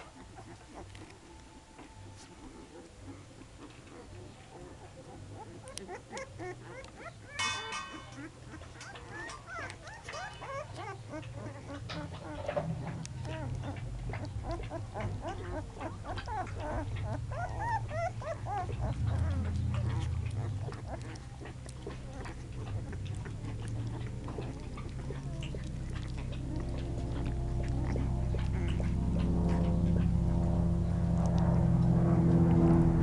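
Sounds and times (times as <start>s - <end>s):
puppies squeaking and whimpering: 0.0s - 31.6s
faint clicks of scrambling puppies: 0.0s - 32.6s.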